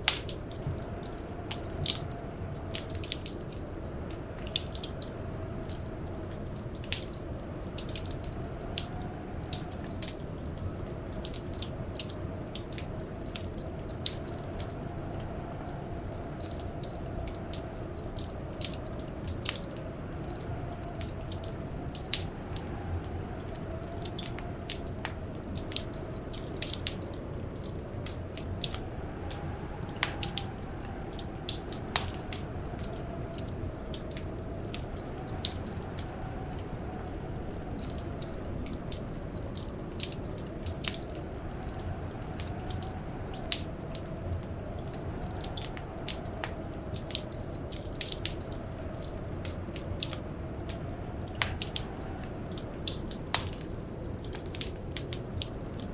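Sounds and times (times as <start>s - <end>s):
blizzard wind howling: 0.0s - 55.9s
low fire rumble: 0.0s - 55.9s
wood fire crackling: 0.0s - 55.9s.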